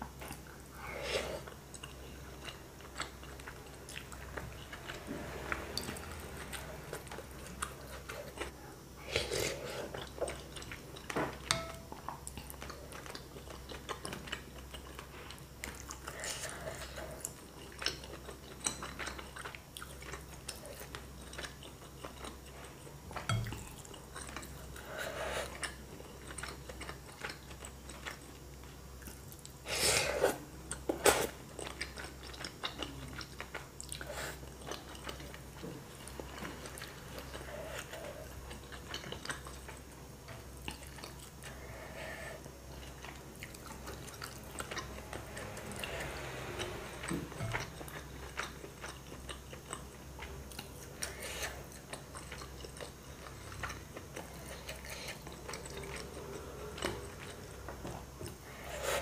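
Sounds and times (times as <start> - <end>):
chewing: 0.1 - 29.6, 30.2 - 59.0.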